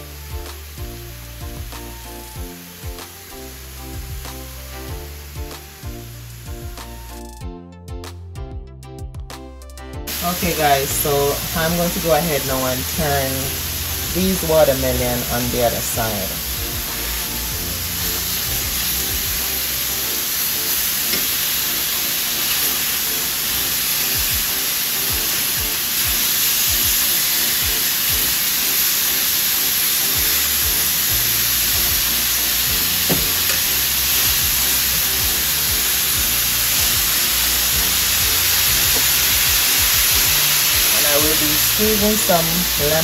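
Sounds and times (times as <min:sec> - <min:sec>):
watermelon sizzling on grill pan: 0:00.0 - 0:07.4, 0:10.1 - 0:43.0
background music: 0:00.0 - 0:43.0.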